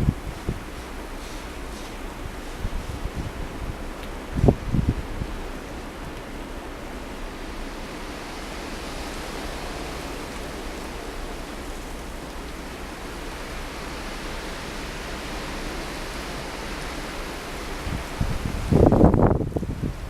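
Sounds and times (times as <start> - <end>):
blizzard wind rushing: 0.0 - 20.0.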